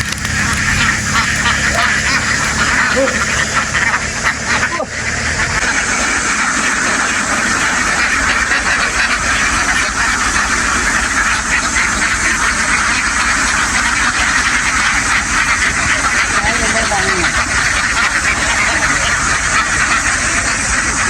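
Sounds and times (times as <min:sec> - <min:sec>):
flock of ducks quacking: 0:00.0 - 0:21.0
steady low rumble: 0:00.0 - 0:21.0.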